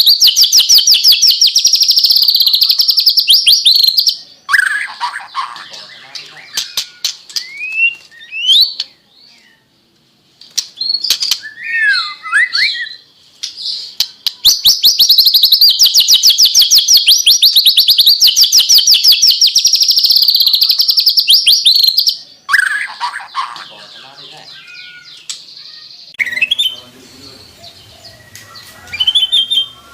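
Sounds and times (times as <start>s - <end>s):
bird singing whistled phrases: 0.0s - 9.7s, 10.8s - 13.1s, 14.3s - 25.3s, 26.0s - 29.9s.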